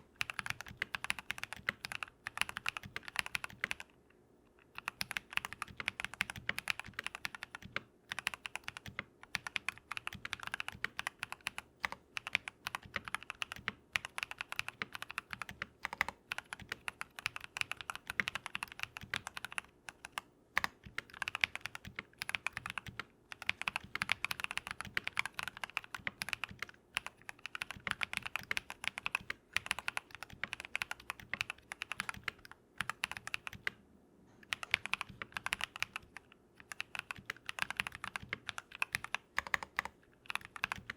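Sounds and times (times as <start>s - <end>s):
fast typing on mechanical keyboard: 0.0s - 3.9s, 4.7s - 33.8s, 34.4s - 40.9s.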